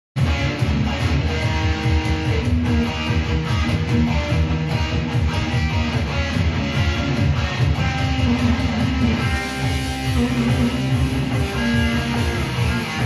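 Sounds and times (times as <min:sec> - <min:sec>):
electric guitar riff: 0:00.2 - 0:13.0.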